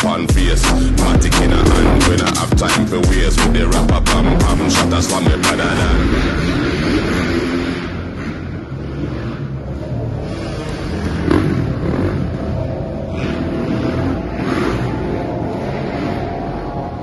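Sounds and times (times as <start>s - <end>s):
dirt bike engine revving: 0.4s - 17.0s.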